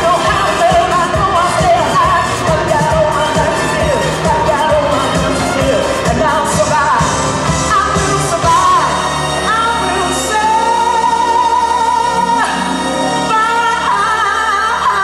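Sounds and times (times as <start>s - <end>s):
pop song with singing voice: 0.0s - 15.0s.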